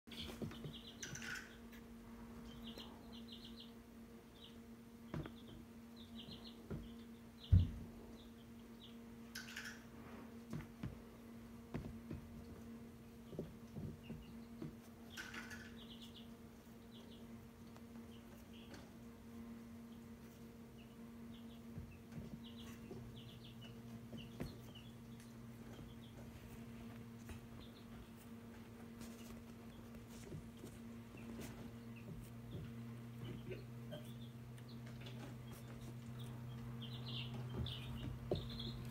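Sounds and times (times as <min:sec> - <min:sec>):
chicks peeping: 0:00.1 - 0:38.9
steady low hum: 0:00.1 - 0:38.9.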